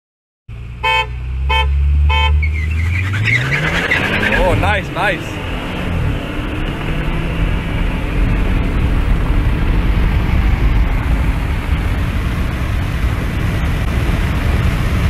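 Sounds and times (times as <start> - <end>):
car cabin road and engine roar: 0.5 - 15.0.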